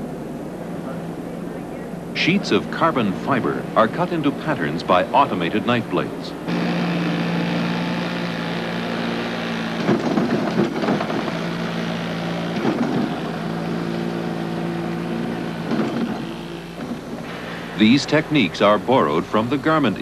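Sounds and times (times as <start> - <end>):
loud noisy cutting bursts: 2.2 - 20.0
cutting machine motor hum: 2.3 - 20.0.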